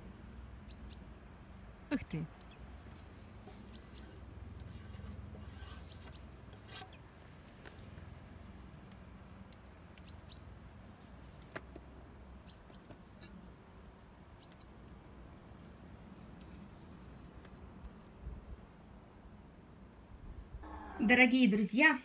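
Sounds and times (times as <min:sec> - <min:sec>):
songbirds chirping: 0:00.0 - 0:18.2, 0:20.6 - 0:21.9.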